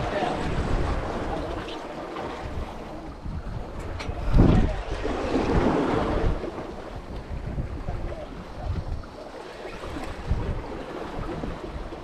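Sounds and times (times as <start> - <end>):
sea water washing: 0.0 - 12.0
wind buffeting microphone: 0.0 - 12.0.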